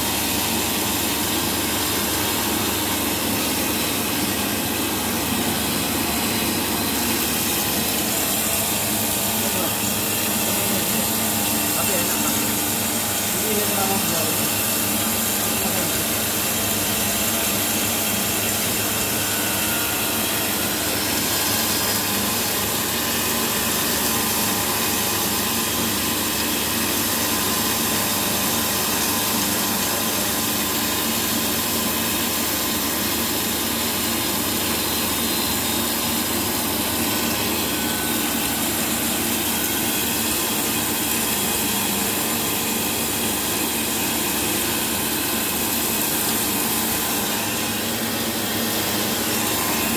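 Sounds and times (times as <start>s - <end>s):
coffee machine motor humming: 0.0s - 49.9s.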